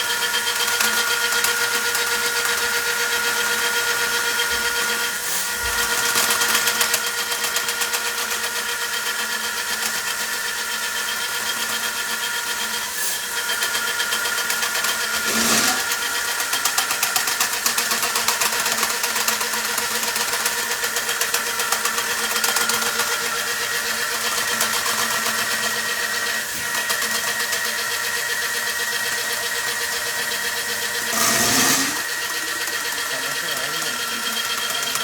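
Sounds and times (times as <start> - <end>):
motor humming and rattling: 0.0 - 35.0.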